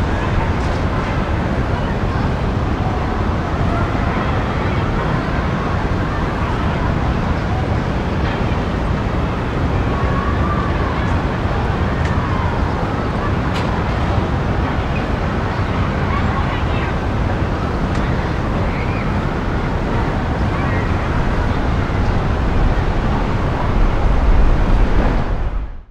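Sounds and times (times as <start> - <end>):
distant children's voices: 0.0 - 25.6
city traffic rumble: 0.0 - 25.9.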